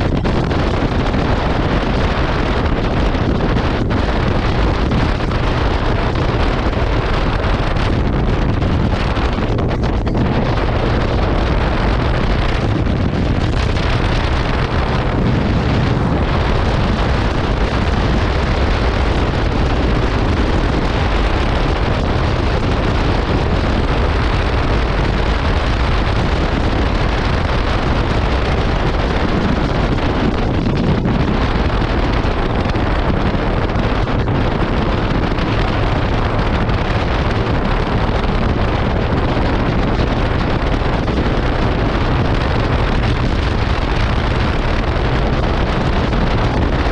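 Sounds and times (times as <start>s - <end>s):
motorcycle engine cruising: 0.0s - 46.9s
wind rushing over microphone: 0.0s - 46.9s.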